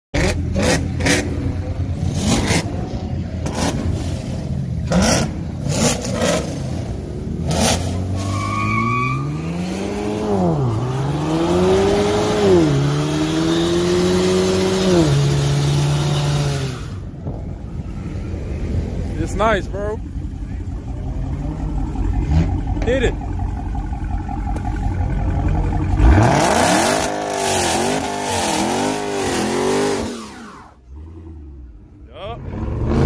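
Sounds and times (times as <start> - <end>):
car engine revving: 0.2 - 33.0.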